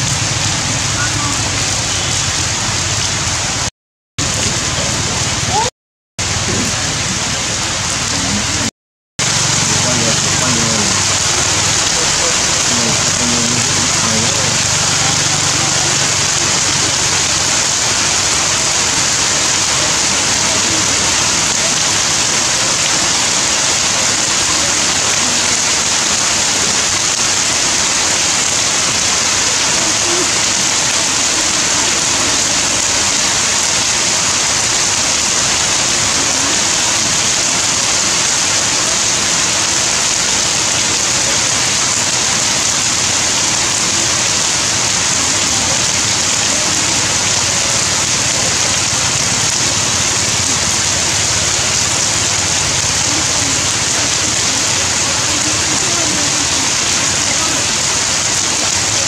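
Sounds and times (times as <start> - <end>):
heavy rain splashing on concrete: 0.0 - 59.0.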